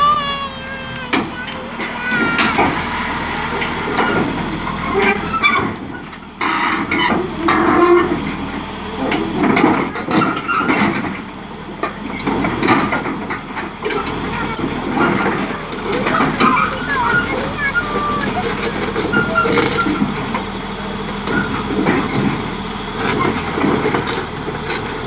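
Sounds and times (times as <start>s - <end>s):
bulldozer running: 0.0s - 25.0s
steel tracks clanking: 0.0s - 25.0s.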